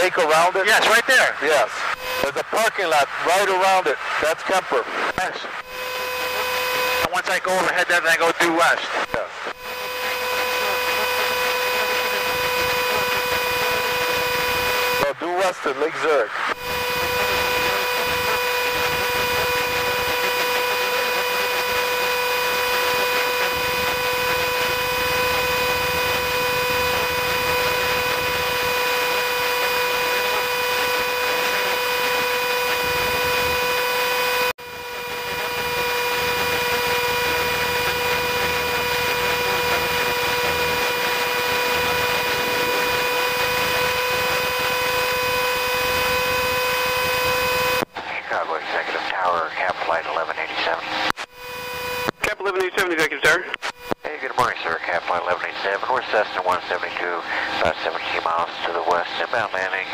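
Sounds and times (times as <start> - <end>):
airplane engine and propeller droning: 0.0 - 59.9.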